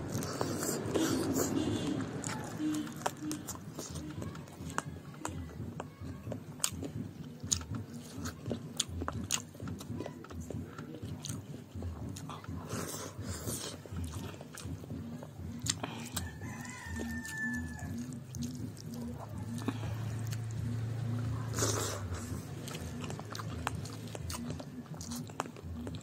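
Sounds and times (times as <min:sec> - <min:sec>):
wet chewing and smacking: 0:00.0 - 0:26.0.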